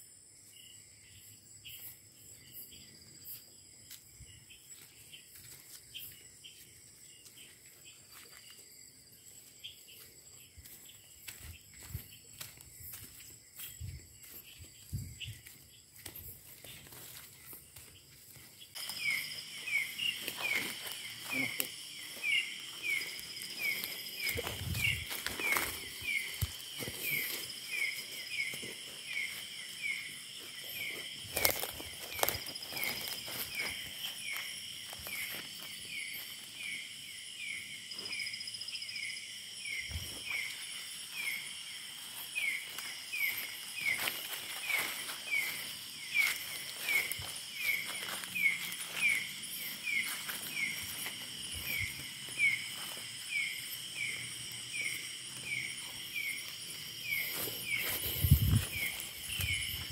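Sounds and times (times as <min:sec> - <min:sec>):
insects trilling and chirping: 0:00.0 - 0:59.9
footsteps in undergrowth: 0:03.2 - 0:38.3, 0:39.6 - 0:59.9.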